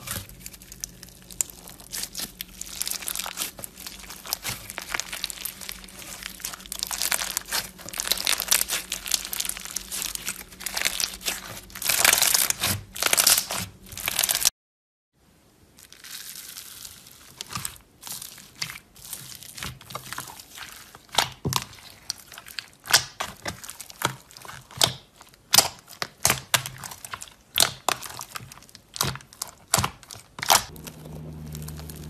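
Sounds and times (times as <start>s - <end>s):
slime crunching and popping: 0.0s - 14.5s, 15.8s - 32.0s.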